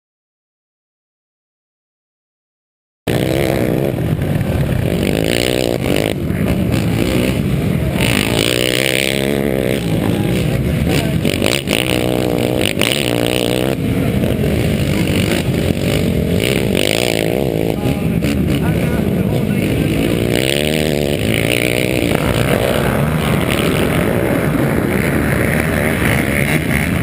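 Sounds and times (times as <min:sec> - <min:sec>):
quad engines idling and revving: 0:03.1 - 0:27.0.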